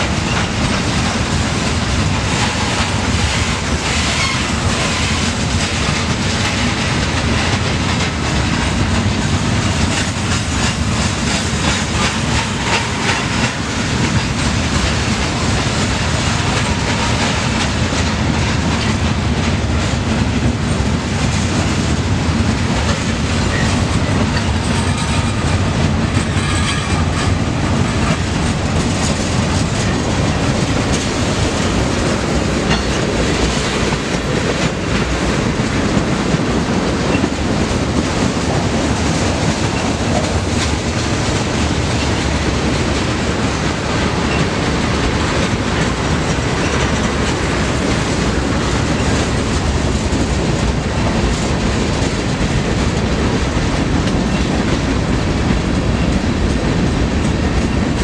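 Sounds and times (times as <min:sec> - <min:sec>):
clickety-clack over rail joints: 0:00.0 - 0:58.0
freight train wheels rumbling on rails: 0:00.0 - 0:58.0.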